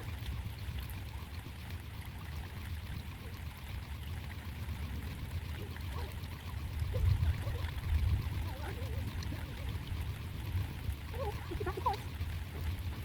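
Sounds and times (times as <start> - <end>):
low microphone rumble: 0.0 - 13.0
water running and trickling: 0.0 - 13.0.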